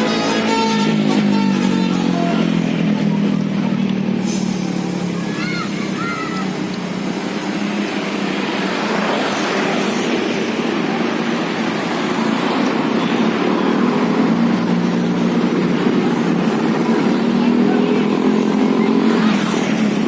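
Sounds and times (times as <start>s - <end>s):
large vehicle engine running: 0.0s - 20.0s
road noise rushing: 0.0s - 20.0s.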